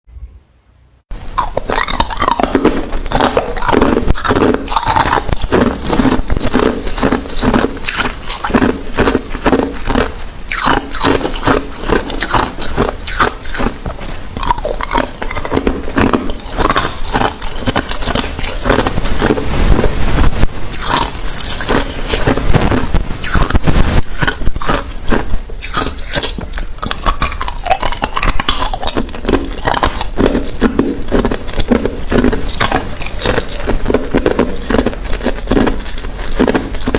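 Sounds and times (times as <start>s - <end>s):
ice cubes crunching in teeth: 1.4s - 19.5s, 20.7s - 36.9s.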